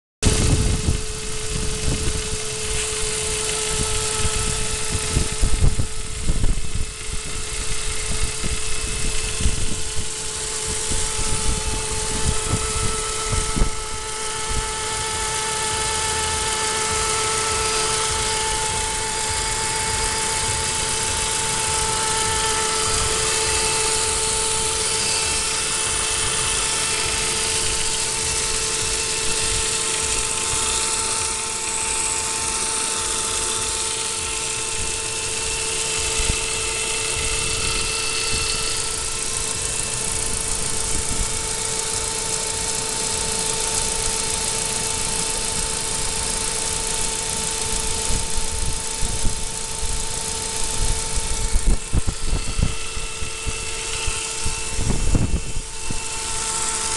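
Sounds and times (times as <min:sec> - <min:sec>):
car engine running: 0:00.2 - 0:56.9
steady high whine: 0:00.2 - 0:56.9.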